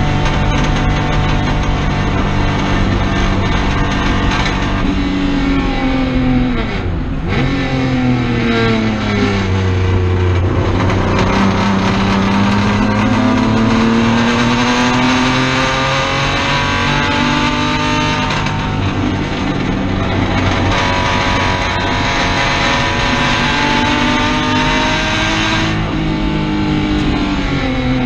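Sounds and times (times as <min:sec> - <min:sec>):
race car engine: 0:00.0 - 0:28.0.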